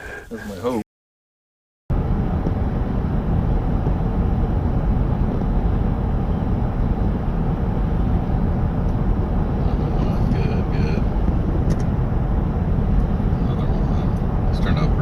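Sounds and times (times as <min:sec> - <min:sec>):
vehicle low rumble: 0:01.9 - 0:15.0.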